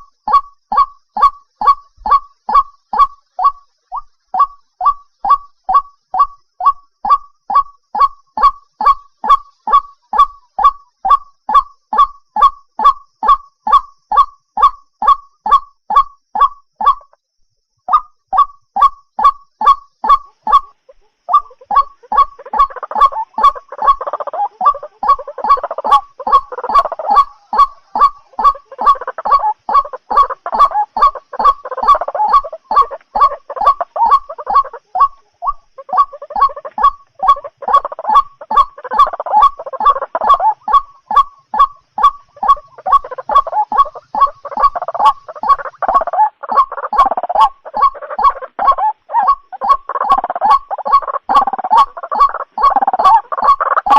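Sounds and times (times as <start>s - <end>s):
waterhen calling: 0.0s - 17.2s, 17.9s - 53.9s.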